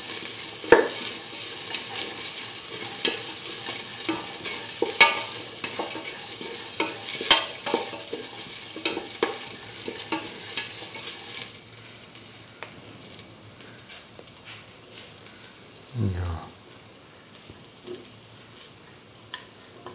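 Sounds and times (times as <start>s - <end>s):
onions sizzling in oil: 0.0s - 19.9s.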